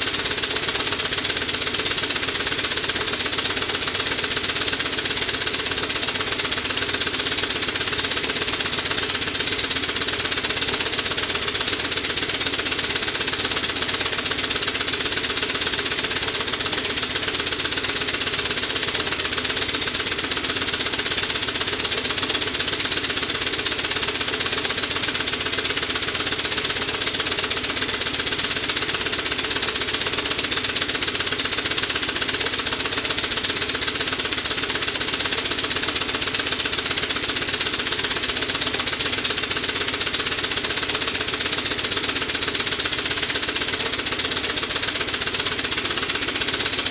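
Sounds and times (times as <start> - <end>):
steam engine chuffing: 0.0 - 46.9.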